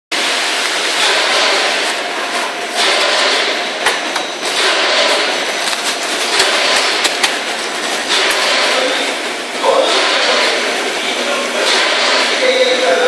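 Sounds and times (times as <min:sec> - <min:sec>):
vacuum packaging machine running: 0:00.1 - 0:13.0.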